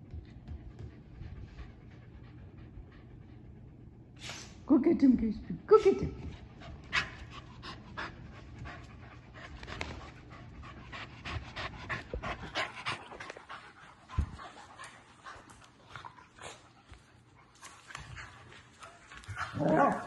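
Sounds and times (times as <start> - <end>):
dog panting: 0.1 - 4.0, 6.2 - 19.9.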